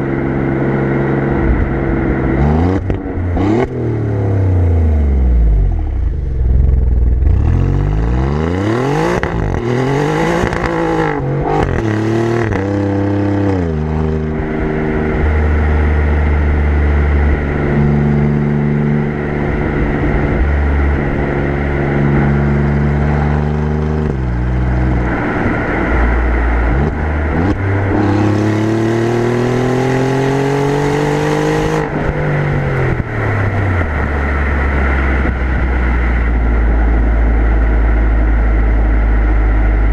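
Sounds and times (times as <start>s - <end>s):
car engine revving while driving: 0.0s - 37.4s.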